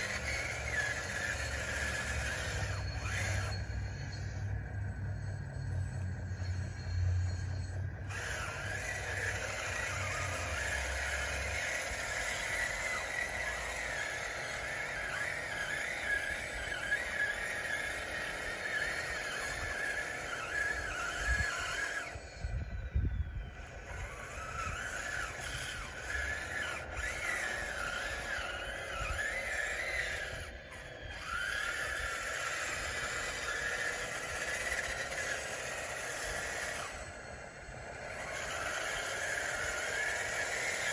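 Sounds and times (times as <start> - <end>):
electric motors whining: 0.0 - 40.9.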